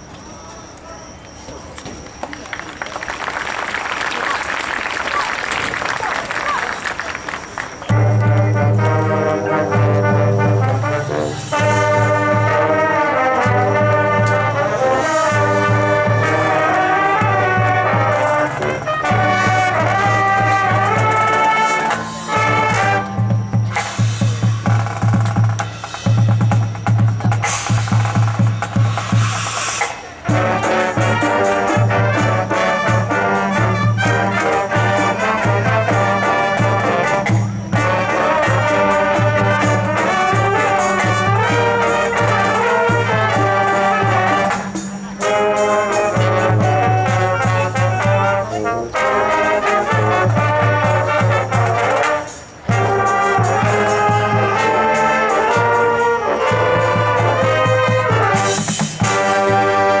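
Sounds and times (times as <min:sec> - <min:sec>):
sustained brass chords: 0:07.2 - 0:27.6, 0:30.1 - 1:00.0.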